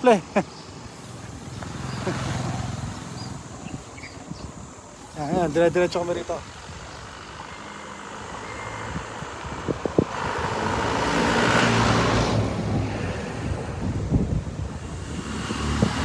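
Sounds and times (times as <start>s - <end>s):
vehicle passing on road: 0.4s - 16.0s
wind on microphone: 1.0s - 16.0s.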